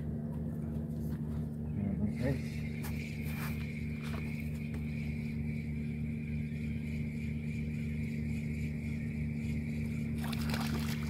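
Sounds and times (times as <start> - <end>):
engine humming with whine: 0.0 - 11.0.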